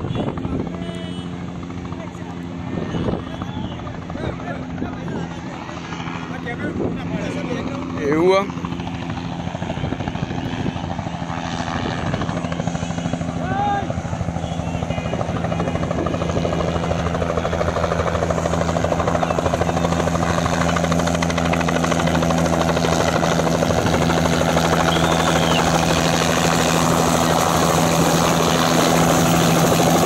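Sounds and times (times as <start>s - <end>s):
helicopter engine and rotor chop: 0.0s - 30.0s.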